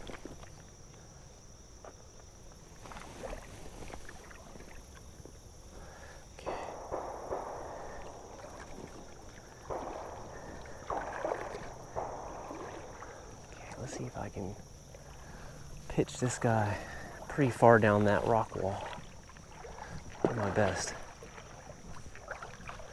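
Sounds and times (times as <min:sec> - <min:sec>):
water splashing around wading legs: 0:02.6 - 0:22.9.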